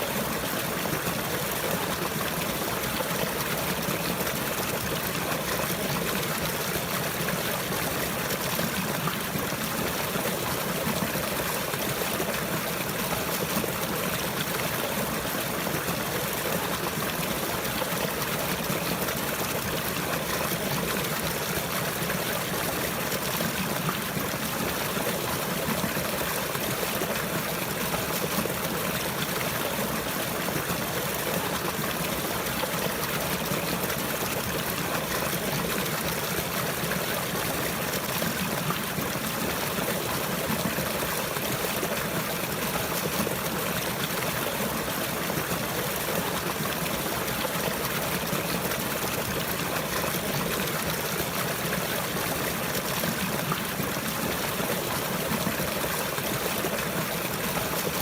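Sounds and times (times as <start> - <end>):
water flowing in stream: 0.0 - 58.0.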